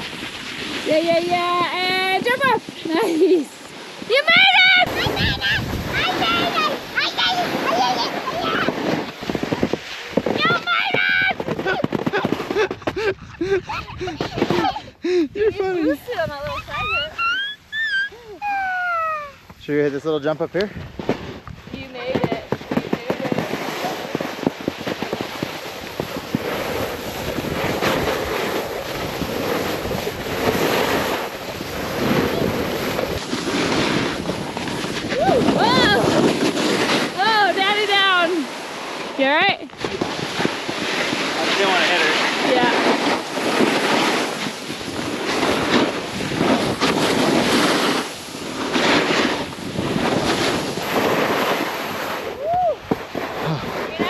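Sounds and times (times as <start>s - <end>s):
wind buffeting microphone: 0.0s - 17.8s, 20.7s - 54.0s
snowboard scraping over snow: 0.0s - 54.0s.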